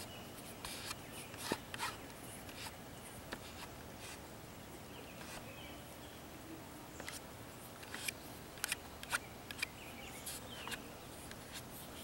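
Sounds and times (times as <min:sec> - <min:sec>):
birds chirping: 0:00.0 - 0:12.0
faint steady background hiss: 0:00.0 - 0:12.0.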